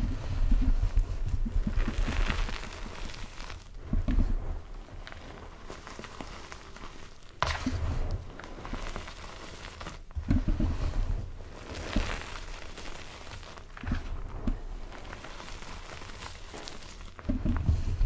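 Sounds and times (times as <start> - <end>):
hands crumbling chalk: 0.0 - 18.0.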